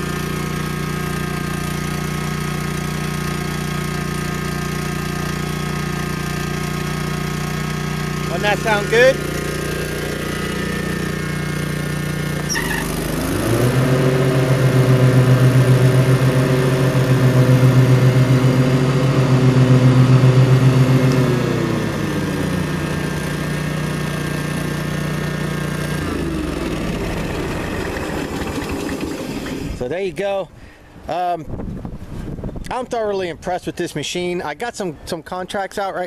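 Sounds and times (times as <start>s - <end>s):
lawn mower engine running: 0.0s - 31.1s.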